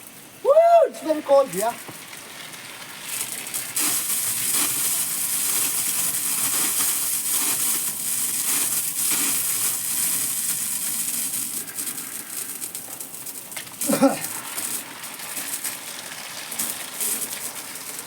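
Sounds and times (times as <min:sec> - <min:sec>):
water gushing from a pipe: 0:00.0 - 0:18.0.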